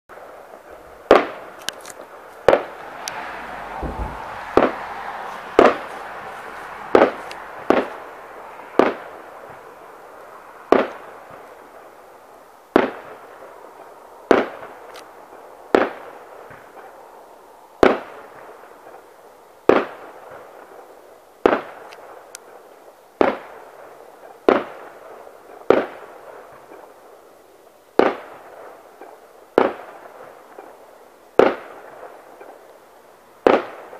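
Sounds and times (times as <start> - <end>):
fireworks bursting with echo: 0.1 - 33.9
steady hiss: 0.1 - 33.9.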